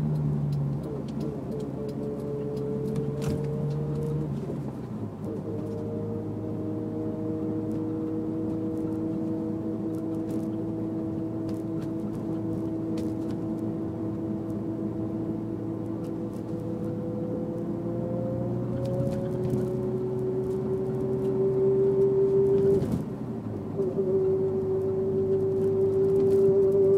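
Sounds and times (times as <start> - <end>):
car engine and road noise: 0.0 - 26.9
drivetrain whine: 0.0 - 26.9.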